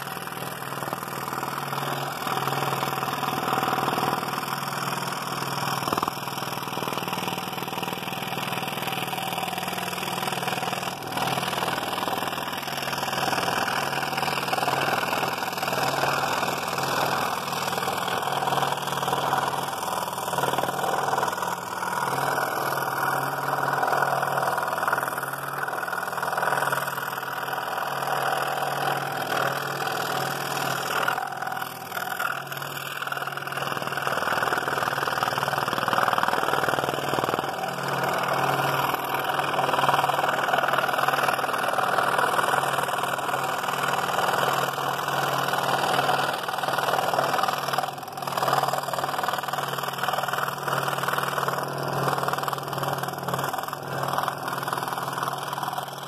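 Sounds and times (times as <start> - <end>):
scroll saw cutting wood: 0.0 - 56.0.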